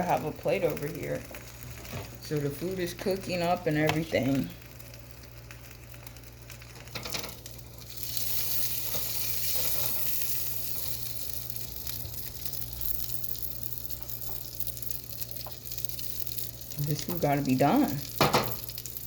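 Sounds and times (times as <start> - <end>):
sausages sizzling in a pan: 0.0 - 19.0.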